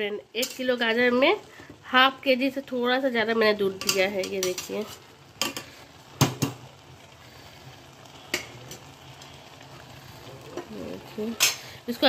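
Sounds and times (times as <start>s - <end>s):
faint hiss from pot: 0.0s - 12.0s.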